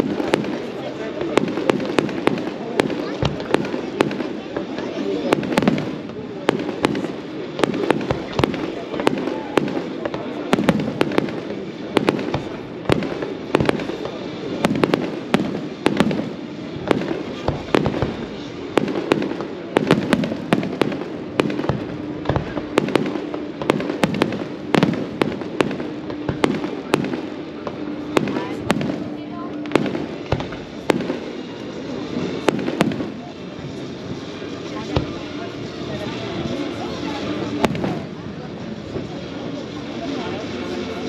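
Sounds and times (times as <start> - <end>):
fireworks bursting: 0.0 - 41.0.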